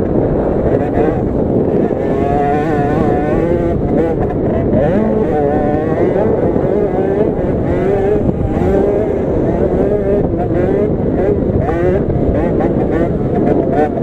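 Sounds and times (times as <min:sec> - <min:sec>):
minibike engine revving: 0:00.0 - 0:14.0.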